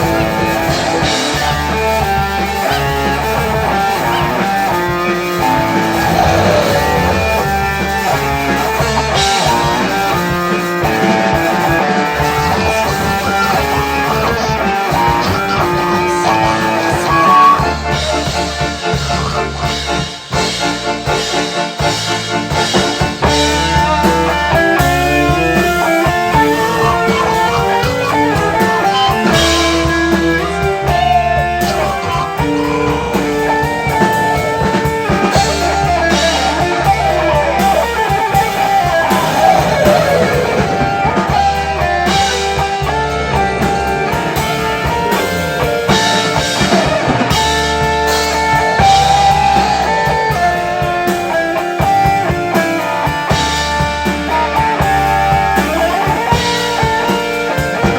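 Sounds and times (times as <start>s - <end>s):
bass: 0.0s - 57.9s
drum kit: 0.0s - 57.9s
electric guitar: 0.0s - 57.9s.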